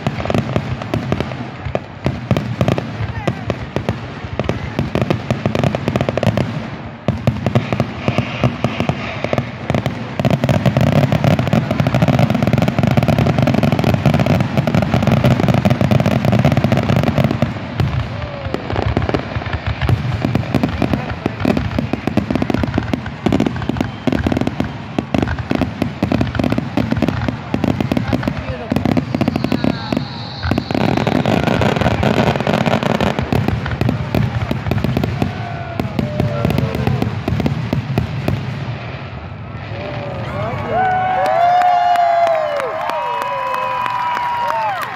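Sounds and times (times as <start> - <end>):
fireworks bursting and crackling: 0.0 - 44.9.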